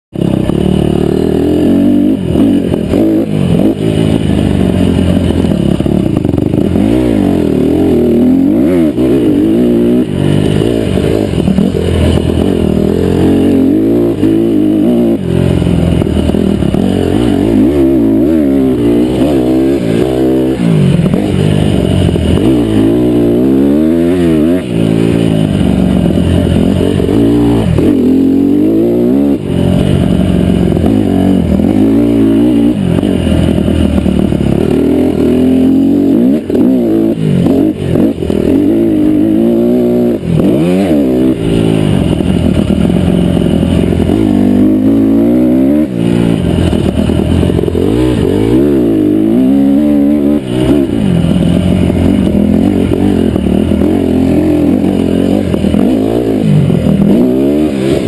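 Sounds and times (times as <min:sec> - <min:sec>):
mini bike engine revving: 0:00.2 - 0:58.0.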